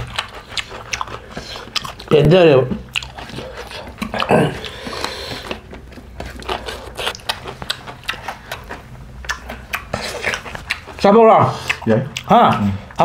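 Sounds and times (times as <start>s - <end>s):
people chewing and smacking: 0.0s - 13.0s.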